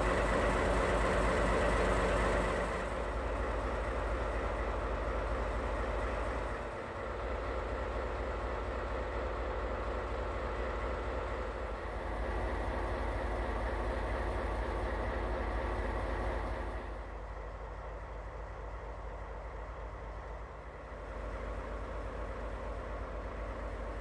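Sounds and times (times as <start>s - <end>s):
train rumbling close by: 0.0s - 24.0s.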